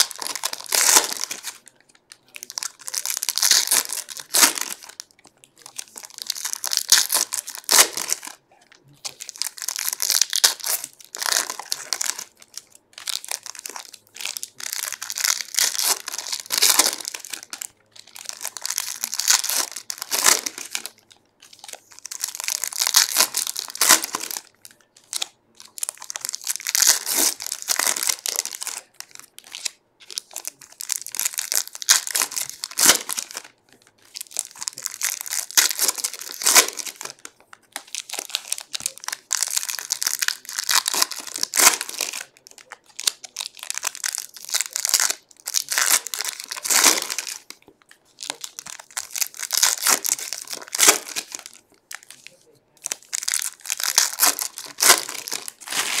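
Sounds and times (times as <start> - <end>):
foil wrappers tearing and crinkling: 0.0 - 56.0.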